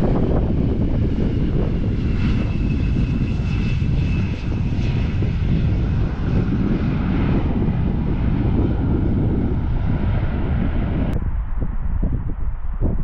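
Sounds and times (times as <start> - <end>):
jet engine high whine: 0.0 - 13.0
jet engine low rumble: 0.0 - 13.0.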